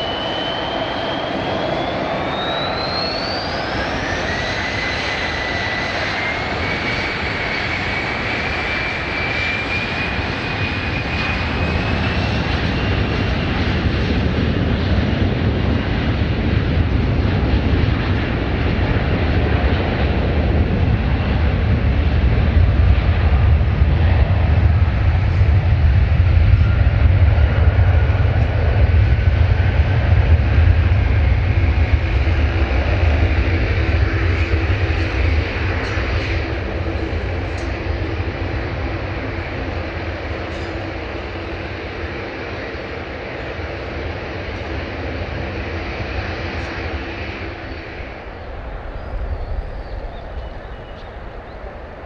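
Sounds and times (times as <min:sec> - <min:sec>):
jet engines rumbling: 0:00.0 - 0:52.0.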